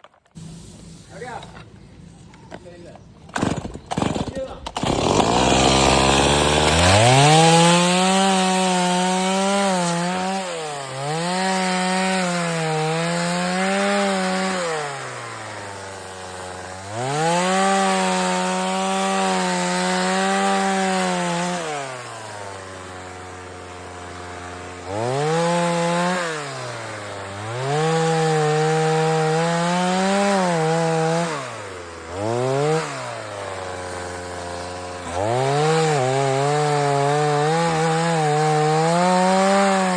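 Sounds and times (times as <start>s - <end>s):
chainsaw cutting wood: 0.0s - 1.8s, 2.6s - 39.9s.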